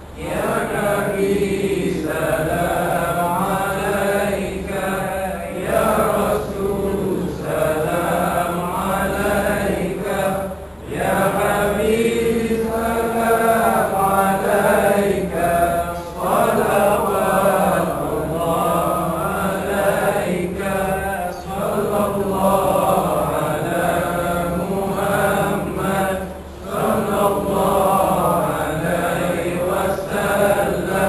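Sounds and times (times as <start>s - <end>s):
men chanting in unison: 0.1s - 31.0s.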